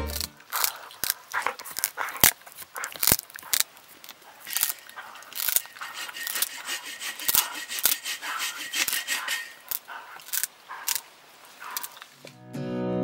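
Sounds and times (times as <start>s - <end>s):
dog gnawing on a stick: 0.0s - 12.4s.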